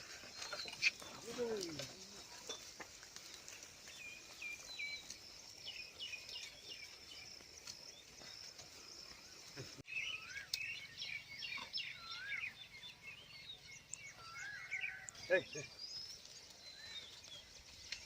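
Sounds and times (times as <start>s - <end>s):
birds chirping and whistling: 0.0s - 1.8s, 3.8s - 18.0s.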